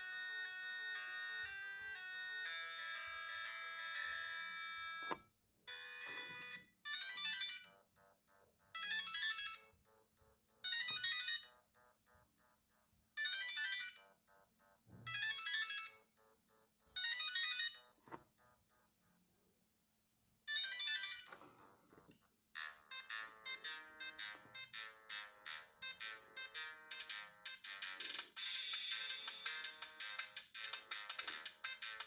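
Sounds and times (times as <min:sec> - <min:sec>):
mobile phone ringtones: 0:00.0 - 0:18.6, 0:20.5 - 0:21.7, 0:22.6 - 0:32.0.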